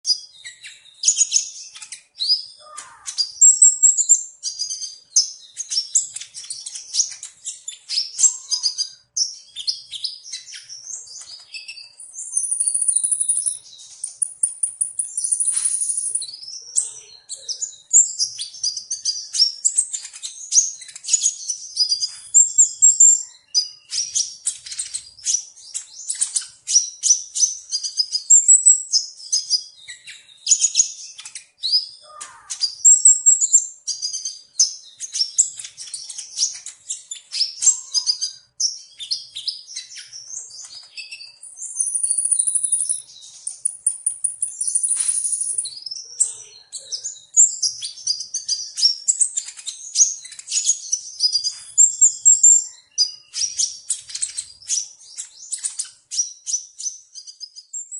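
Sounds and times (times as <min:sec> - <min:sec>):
bird singing chirps and trills: 0:00.0 - 0:57.9
buzzy high bird trill: 0:00.4 - 0:29.0, 0:32.0 - 0:34.4, 0:35.0 - 0:56.0.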